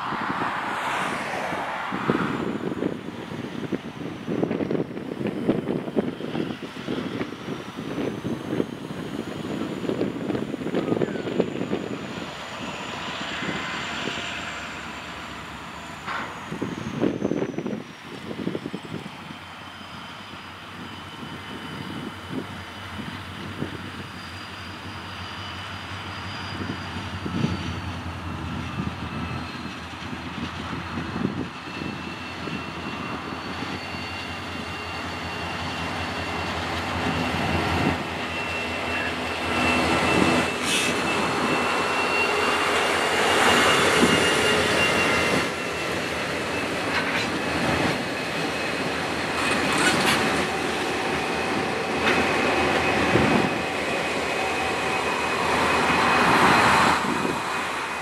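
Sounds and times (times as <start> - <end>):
diesel locomotive engines: 0.0 - 58.0
wagons rumbling on rails: 0.0 - 58.0.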